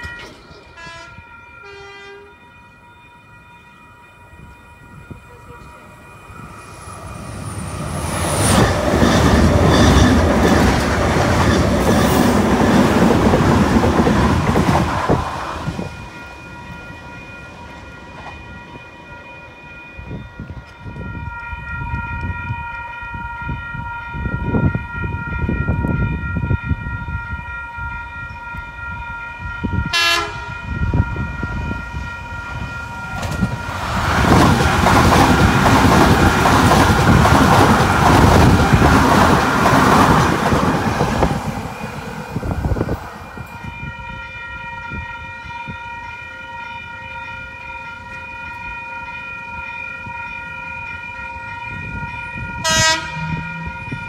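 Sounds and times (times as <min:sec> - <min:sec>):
level crossing warning bells: 0:00.0 - 0:54.0
train passing on rails: 0:00.0 - 0:54.0.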